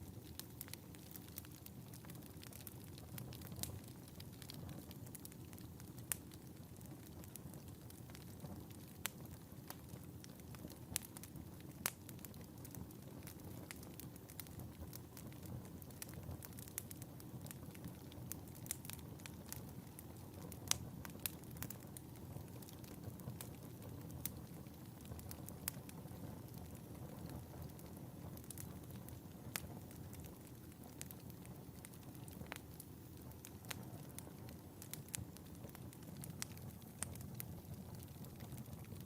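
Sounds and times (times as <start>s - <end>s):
fire crackling and popping: 0.0s - 39.0s
fire flames rumbling: 0.0s - 39.0s.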